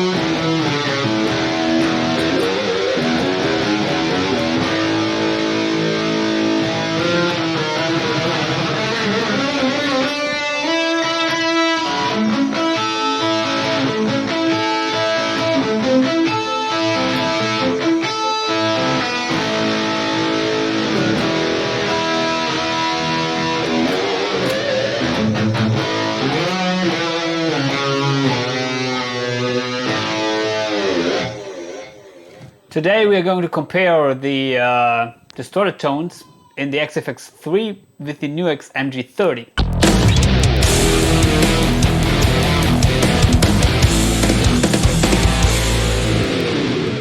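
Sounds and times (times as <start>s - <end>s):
distorted electric guitar: 0.0s - 32.6s, 39.6s - 47.0s.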